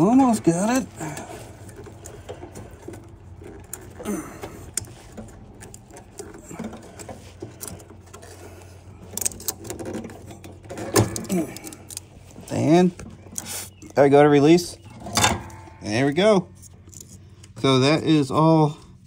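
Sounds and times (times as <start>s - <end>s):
drive belt and metal clicking: 0.0s - 19.0s
low steady hum: 0.0s - 19.0s.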